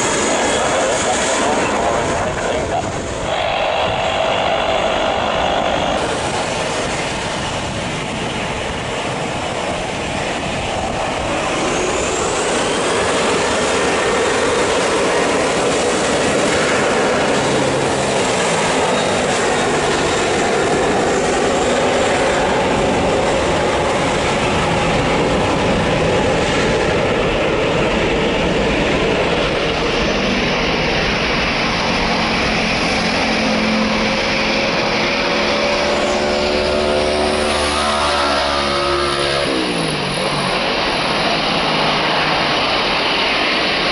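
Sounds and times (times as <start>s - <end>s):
jet engine roar: 0.0s - 43.9s
rising turbine whine: 0.0s - 43.9s.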